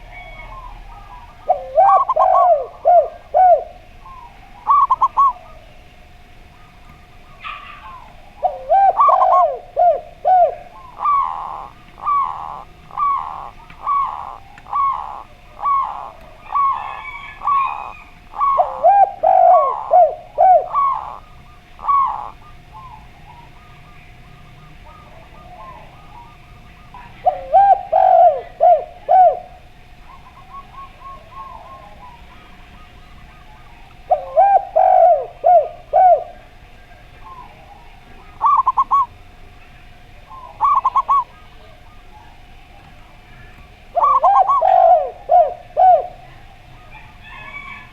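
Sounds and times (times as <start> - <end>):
doves cooing: 0.0 - 47.9
faint steady hum: 0.0 - 47.9.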